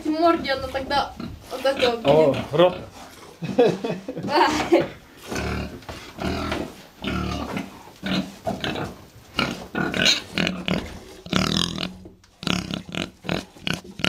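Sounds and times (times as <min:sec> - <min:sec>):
pigs grunting: 0:00.0 - 0:03.6, 0:04.4 - 0:14.0.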